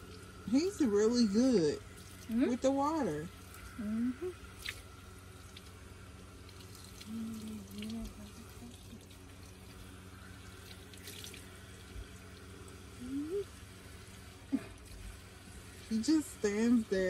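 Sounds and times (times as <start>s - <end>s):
faucet water splashing: 0.0s - 17.0s.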